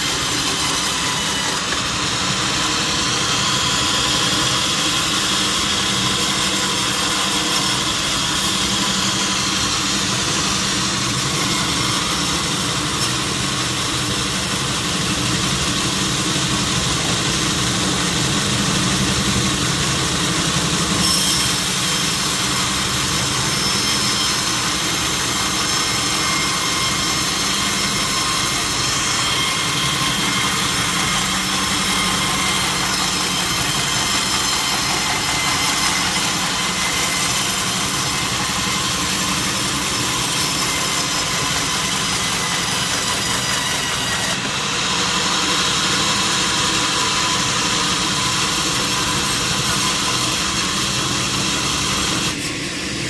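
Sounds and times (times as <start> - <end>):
sawmill saw whining drone: 0.0 - 53.0.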